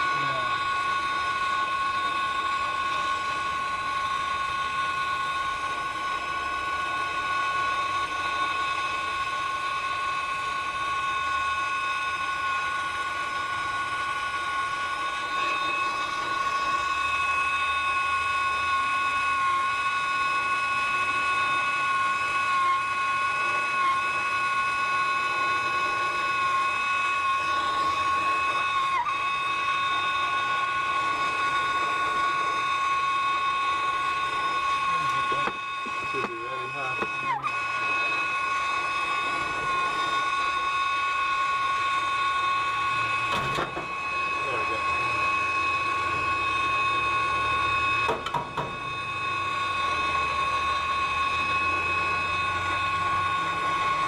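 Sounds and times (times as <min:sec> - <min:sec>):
steady whistle of gas flow: 0:00.0 - 0:54.0
torch flame hissing: 0:00.0 - 0:54.0.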